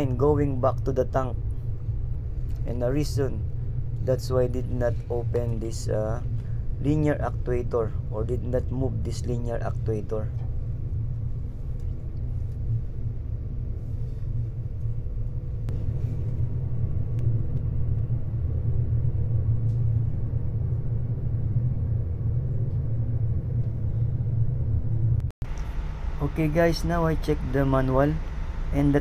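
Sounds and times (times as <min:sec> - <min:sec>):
faint steady hum: 0:00.0 - 0:29.0
ship machinery rumbling: 0:00.0 - 0:29.0.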